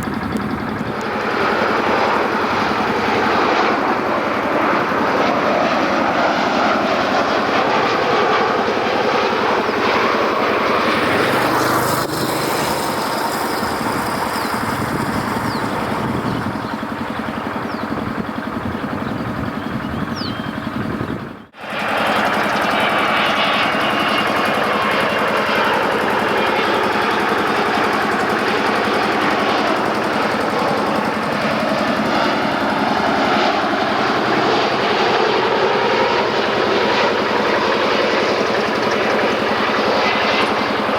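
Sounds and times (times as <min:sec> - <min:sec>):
jet engines rushing: 0:00.0 - 0:40.9.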